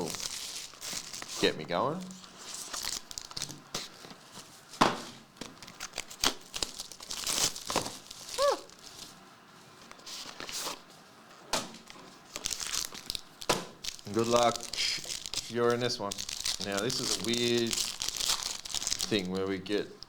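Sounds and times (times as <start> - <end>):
wrapper crinkling and tearing: 0.0 - 4.8, 5.4 - 9.2, 9.8 - 10.9, 11.6 - 20.0.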